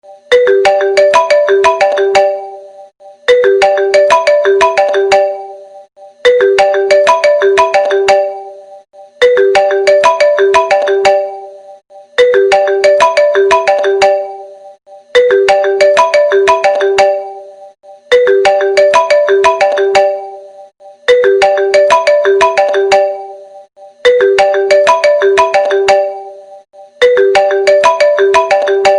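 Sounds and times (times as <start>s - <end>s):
phone ringtone melody: 0.1s - 28.9s.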